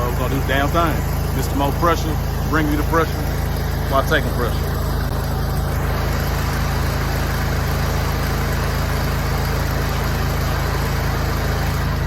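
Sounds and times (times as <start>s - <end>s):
pressure washer engine humming: 0.0s - 12.0s.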